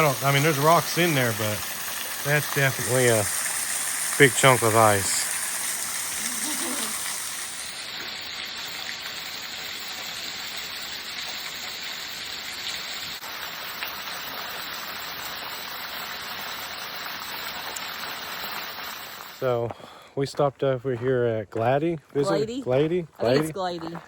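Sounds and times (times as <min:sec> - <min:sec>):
small waterfall rushing: 0:00.0 - 0:19.4.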